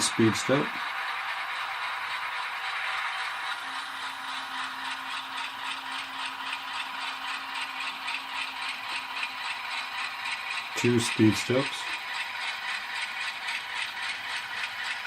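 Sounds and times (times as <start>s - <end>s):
model diesel engine sound: 0.0s - 15.0s.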